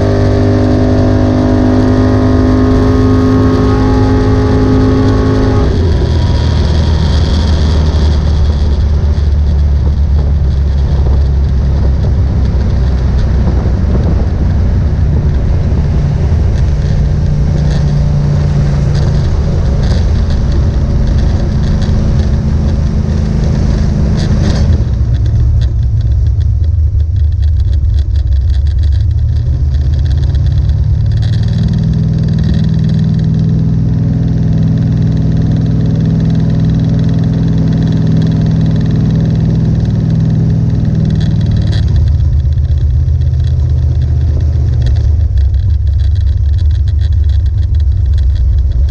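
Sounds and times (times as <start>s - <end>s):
car engine from inside cabin: 0.0s - 48.9s.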